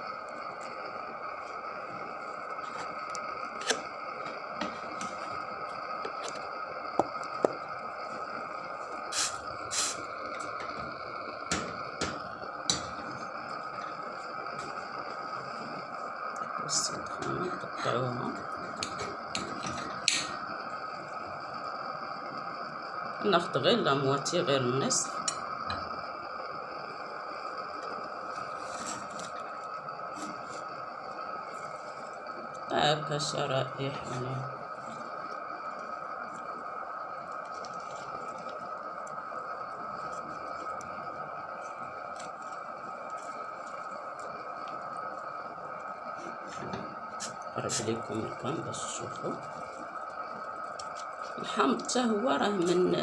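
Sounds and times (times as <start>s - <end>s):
steady background hiss: 0.0s - 53.0s
steady hum: 0.0s - 53.0s.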